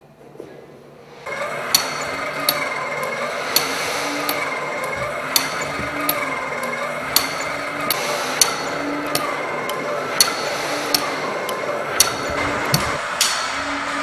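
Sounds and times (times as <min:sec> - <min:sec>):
mechanism whirring: 0:01.2 - 0:14.0
mechanical clicks and knocks: 0:01.3 - 0:13.0.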